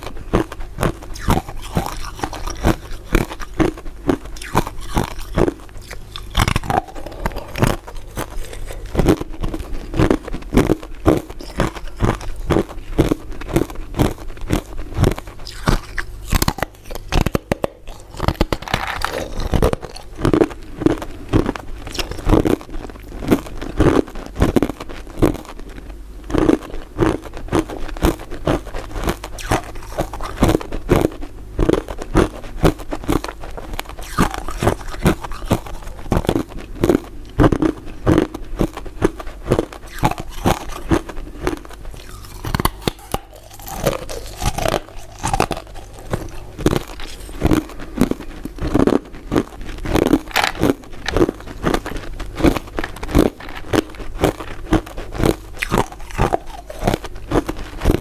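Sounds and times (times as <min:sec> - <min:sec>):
crunching and chewing ice dessert: 0:00.0 - 0:58.0.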